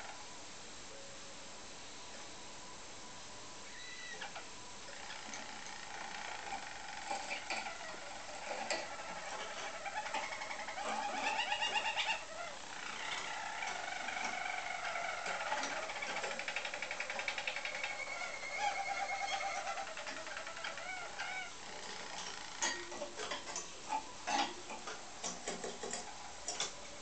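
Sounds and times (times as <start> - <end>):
canaries singing rolling trills: 3.6 - 27.0.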